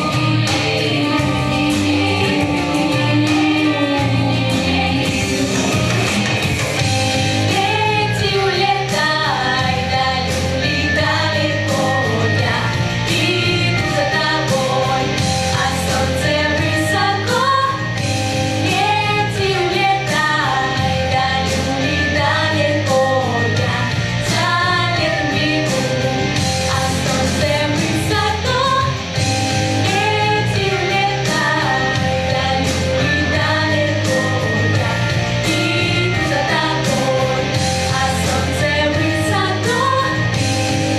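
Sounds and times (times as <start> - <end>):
pop-rock song with singing: 0.0 - 40.9.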